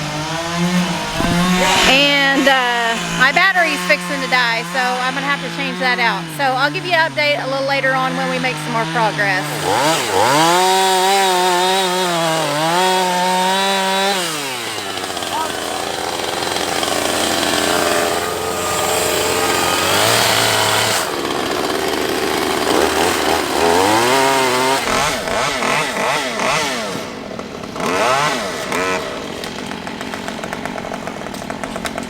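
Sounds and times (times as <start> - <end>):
chainsaw engine revving: 0.0 - 32.0.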